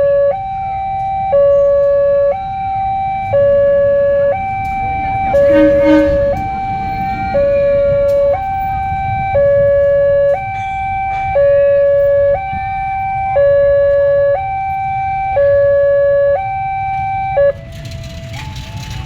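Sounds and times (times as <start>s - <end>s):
level-crossing alarm two-tone signal: 0.0s - 17.7s
low rumble of traffic: 0.0s - 19.0s.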